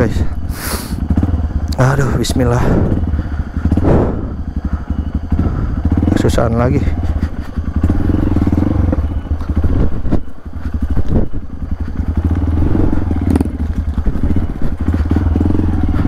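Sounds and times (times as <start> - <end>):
motorcycle engine chugging: 0.0 - 16.0.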